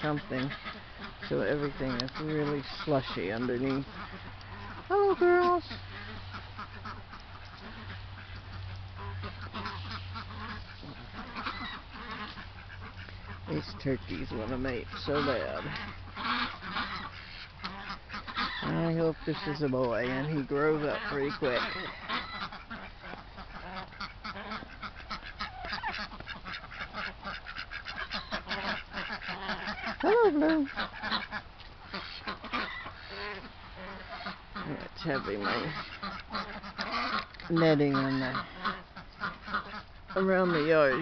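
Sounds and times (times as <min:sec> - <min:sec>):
ducks quacking: 0:00.0 - 0:41.0
low steady hum: 0:00.0 - 0:41.0
turkeys chattering: 0:00.0 - 0:41.0.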